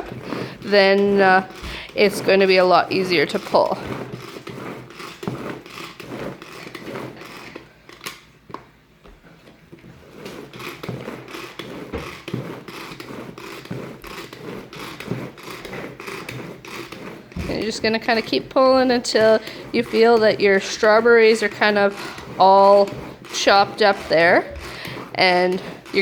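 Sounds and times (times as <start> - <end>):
blades chopping in plastic bowl: 0.0 - 8.7, 10.0 - 26.0.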